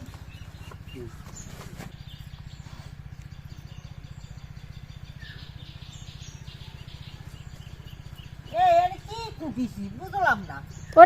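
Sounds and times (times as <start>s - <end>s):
birds chirping: 0.0s - 11.0s
low fast-pulsing hum: 0.0s - 11.0s.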